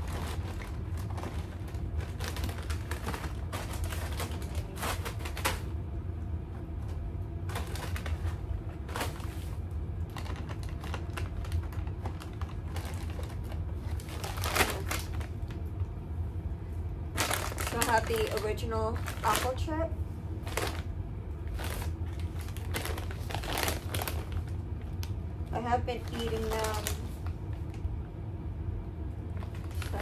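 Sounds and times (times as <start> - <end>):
plastic snack bags crinkling: 0.0 - 5.8, 7.4 - 15.8, 17.1 - 27.9, 29.3 - 30.0
steady low hum: 0.0 - 30.0.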